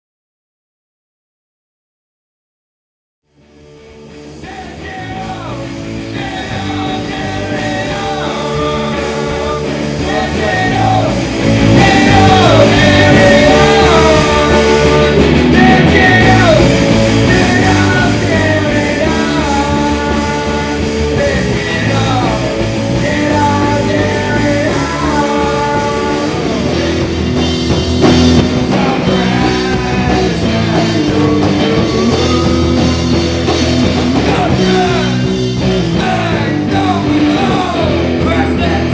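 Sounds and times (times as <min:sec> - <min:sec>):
punk rock music with singing: 0:03.4 - 0:38.9.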